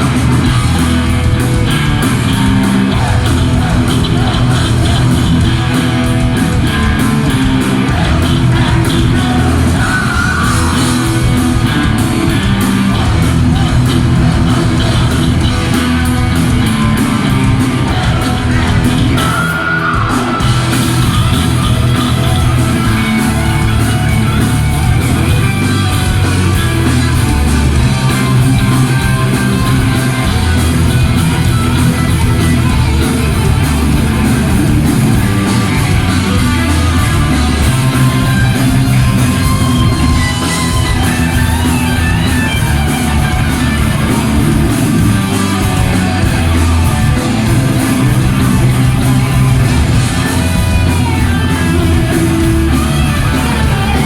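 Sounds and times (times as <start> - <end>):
heavy metal band playing: 0.0 - 54.0
shouted singing: 0.0 - 54.0.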